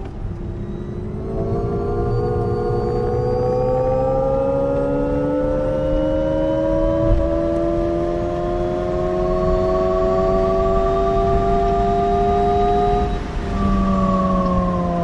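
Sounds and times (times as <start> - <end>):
electric car synthesised drive tone: 0.0 - 15.0
low road rumble: 0.0 - 15.0.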